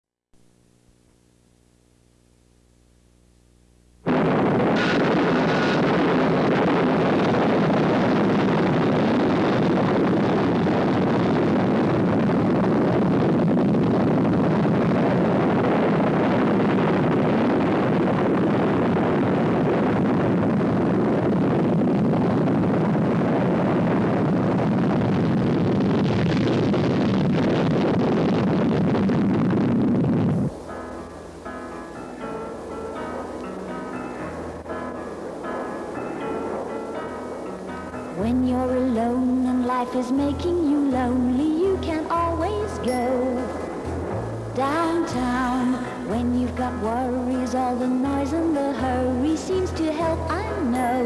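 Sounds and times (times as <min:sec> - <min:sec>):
jet engine roar: 0:04.1 - 0:46.2.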